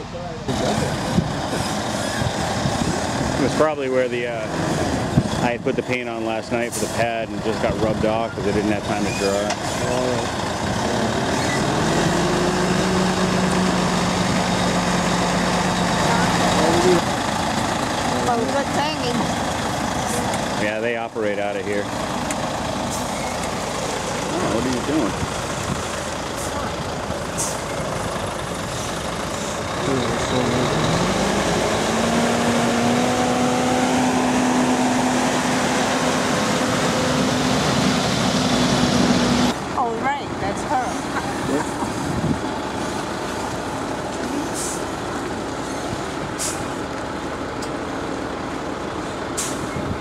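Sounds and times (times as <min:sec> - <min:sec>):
truck diesel engine running: 0:00.0 - 0:50.0.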